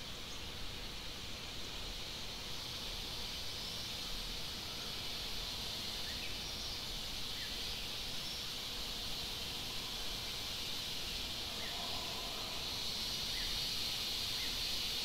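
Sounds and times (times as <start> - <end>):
high-pitched insect drone: 2.8 - 15.0.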